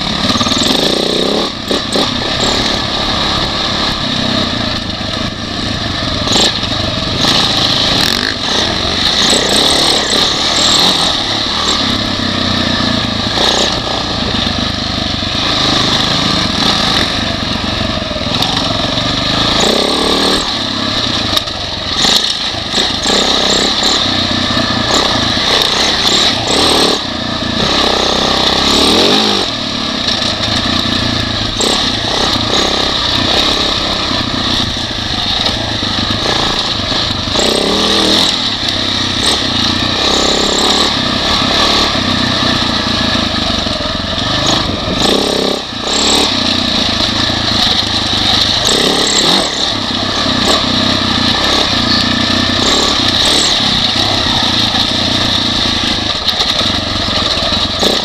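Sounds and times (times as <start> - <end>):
motorcycle engine revving: 0.0 - 58.0
motorcycle knocking over bumps: 0.0 - 58.0.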